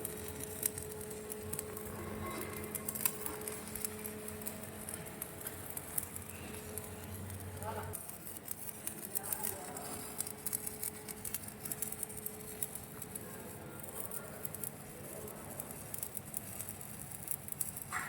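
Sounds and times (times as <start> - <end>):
faint steady hum: 0.0 - 18.0
welding arc crackling: 0.0 - 18.0.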